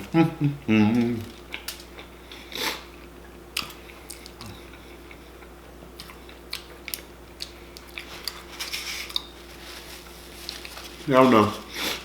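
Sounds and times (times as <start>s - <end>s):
person chewing food: 0.9s - 12.0s.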